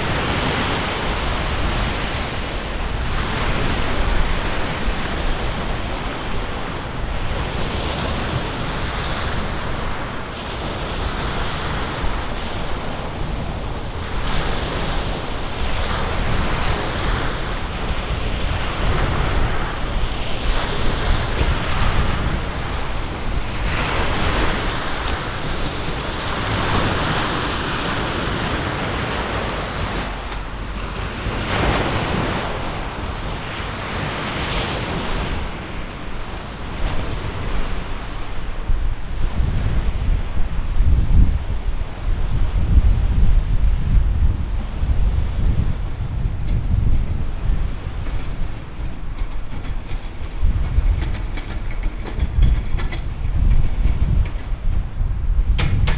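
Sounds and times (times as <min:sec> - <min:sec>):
waves washing against shore: 0:00.0 - 0:55.9
wind rumbling on microphone: 0:00.0 - 0:55.9.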